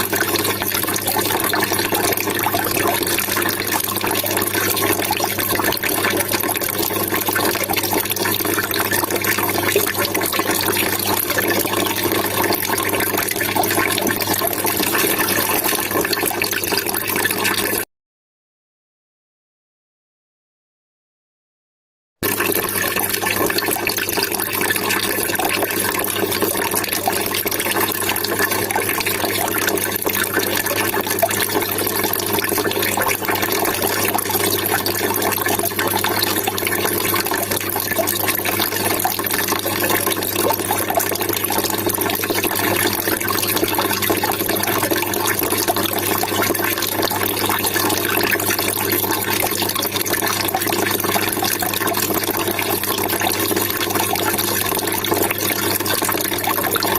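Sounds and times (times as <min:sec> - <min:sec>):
water trickling and splashing: 0:00.0 - 0:17.8, 0:22.2 - 0:56.9.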